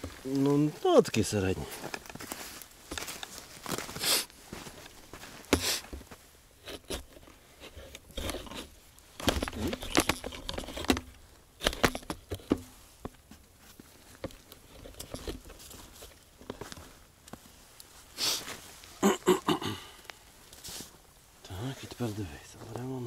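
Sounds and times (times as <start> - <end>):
wood rustling and scraping: 0.0 - 19.0, 20.3 - 21.1.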